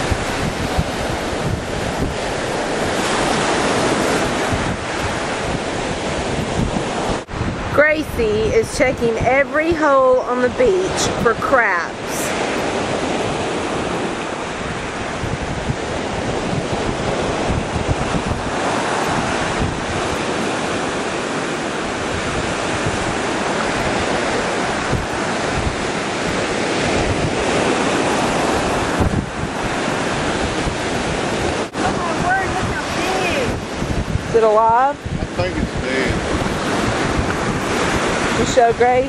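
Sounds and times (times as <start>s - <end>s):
ocean surf washing onto beach: 0.0s - 39.0s
wind buffeting microphone: 0.0s - 39.0s.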